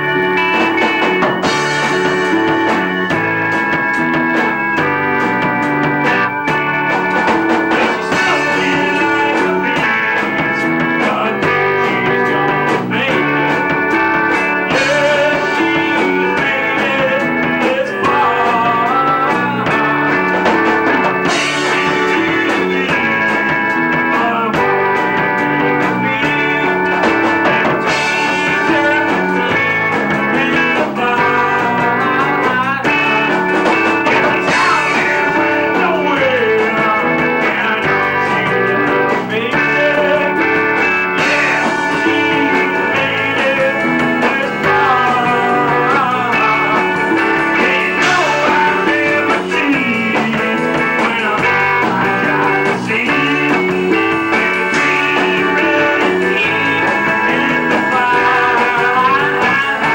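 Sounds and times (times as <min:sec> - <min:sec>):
bent electric guitar notes: 0:00.0 - 0:59.9
rock band playing: 0:00.0 - 0:59.9.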